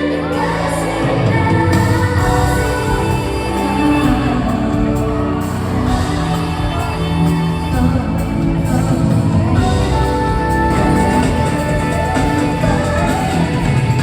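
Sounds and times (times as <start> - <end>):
person singing: 0.0 - 14.0
pop backing music: 0.0 - 14.0.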